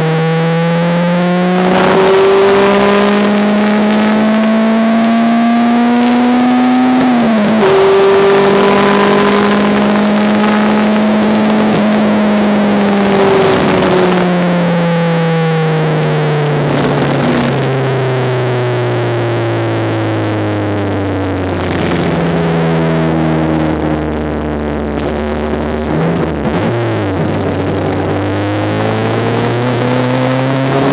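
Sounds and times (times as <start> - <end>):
race car engine: 0.0 - 30.9.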